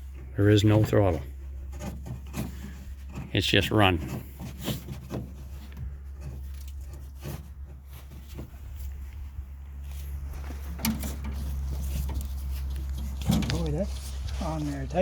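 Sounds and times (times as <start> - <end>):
hands clicking and scraping on engine: 0.0 - 15.0.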